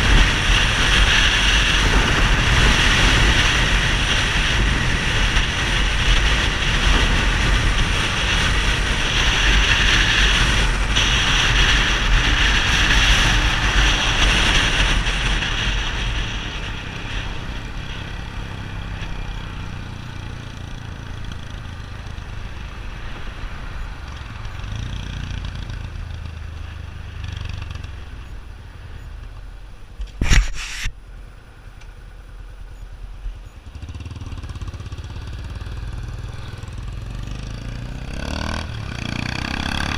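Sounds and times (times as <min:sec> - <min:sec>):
motorcycle engine running: 0:00.0 - 0:30.3, 0:32.0 - 0:39.9.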